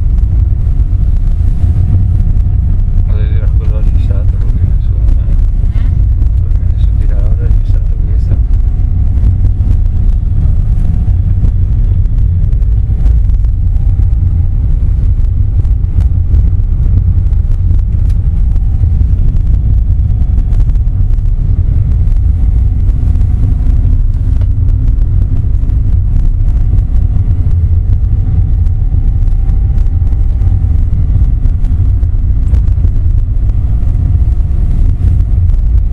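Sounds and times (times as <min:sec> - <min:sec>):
engine and tyres rumbling: 0:00.0 - 0:35.9.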